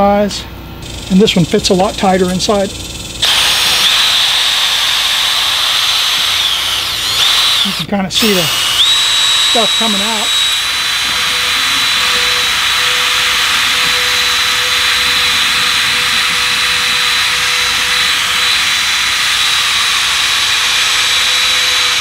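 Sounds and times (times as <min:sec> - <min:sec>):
cordless drill whine: 0:03.1 - 0:22.0.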